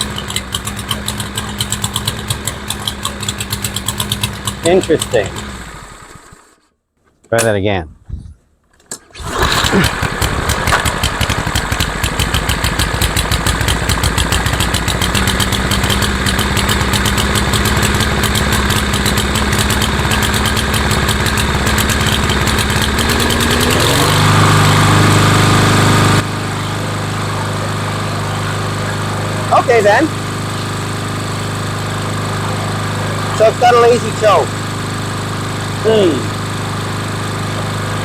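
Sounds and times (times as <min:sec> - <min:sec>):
mower engine running: 0:00.0 - 0:06.6, 0:09.1 - 0:38.0.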